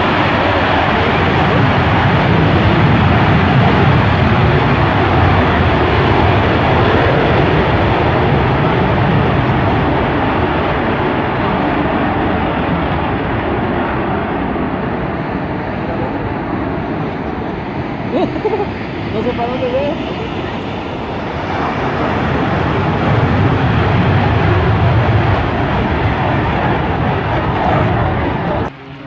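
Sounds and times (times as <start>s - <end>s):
military aircraft engine rumble: 0.0s - 29.0s.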